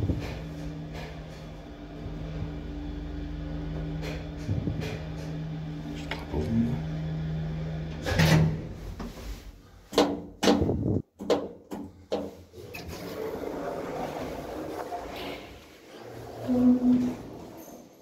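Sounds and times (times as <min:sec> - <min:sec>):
lift motor hum: 0:00.0 - 0:09.9, 0:12.6 - 0:18.0.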